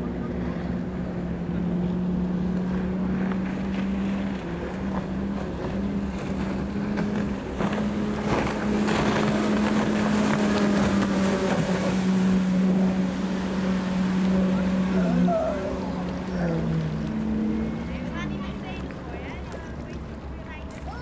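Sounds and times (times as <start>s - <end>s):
outboard engine drone: 0.0s - 21.0s.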